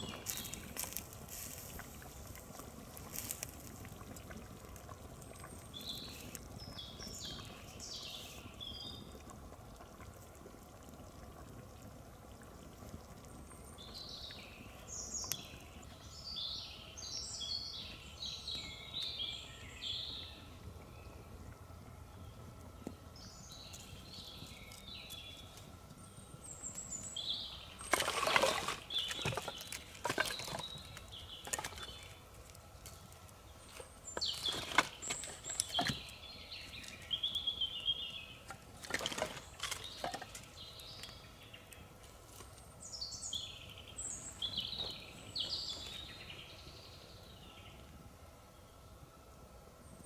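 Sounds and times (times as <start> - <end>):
songbirds singing: 0.0 - 9.8, 13.0 - 49.0.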